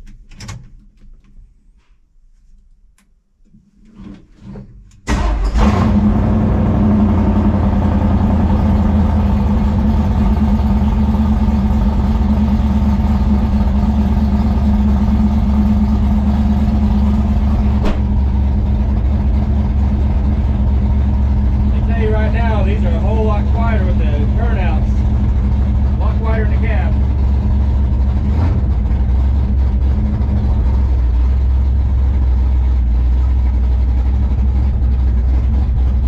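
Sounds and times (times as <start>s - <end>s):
engine starting and idling: 4.7s - 36.0s.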